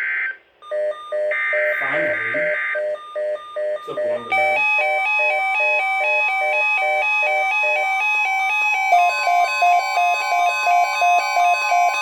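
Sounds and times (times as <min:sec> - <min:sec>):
steady high tone: 0:00.7 - 0:12.0.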